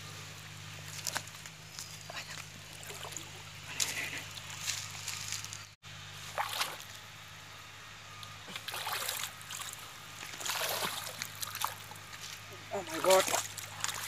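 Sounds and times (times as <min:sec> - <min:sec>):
steady low hum: 0:00.0 - 0:14.0
water sloshing and splashing: 0:00.7 - 0:05.6, 0:06.2 - 0:07.0, 0:08.3 - 0:14.0.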